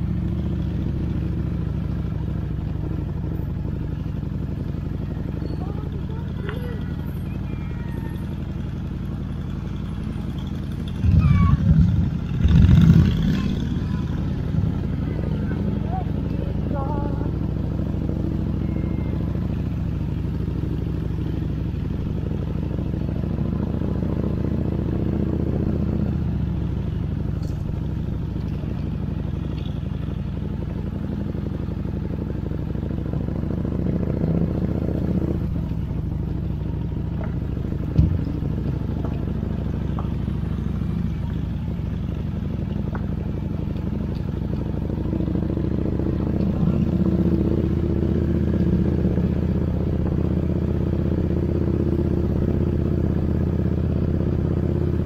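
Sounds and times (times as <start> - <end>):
motorcycle engine humming: 0.0 - 55.0.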